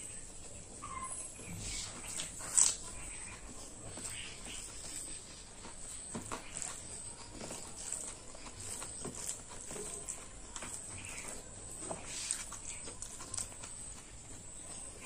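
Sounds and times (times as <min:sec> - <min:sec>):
person chewing food: 0:01.6 - 0:15.0.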